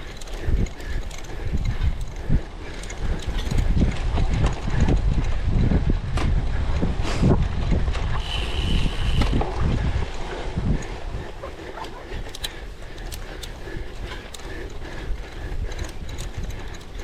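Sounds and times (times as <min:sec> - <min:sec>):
bicycle rattling over rough ground: 0:00.0 - 0:17.0
wind buffeting microphone: 0:00.0 - 0:17.0.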